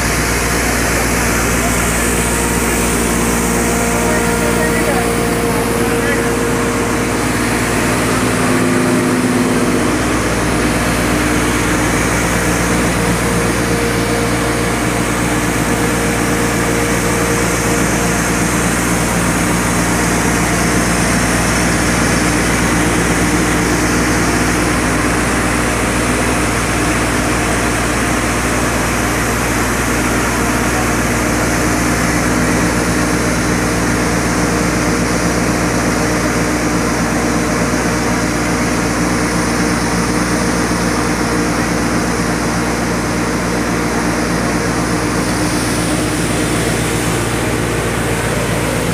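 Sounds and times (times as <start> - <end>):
grinding mill machine drone: 0.0 - 48.9.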